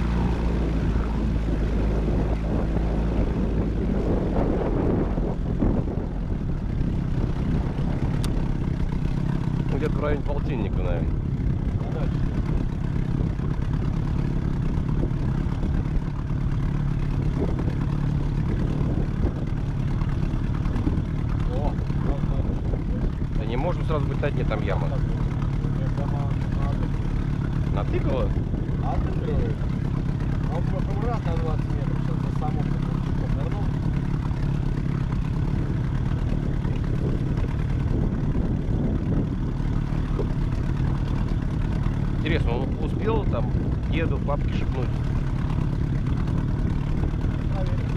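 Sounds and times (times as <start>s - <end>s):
outboard motor running: 0.0s - 47.9s.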